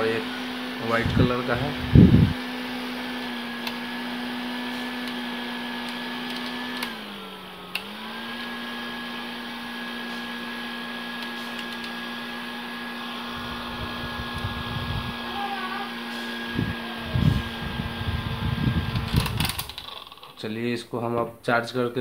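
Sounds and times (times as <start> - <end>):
mini fan whirring hum: 0.0 - 20.4.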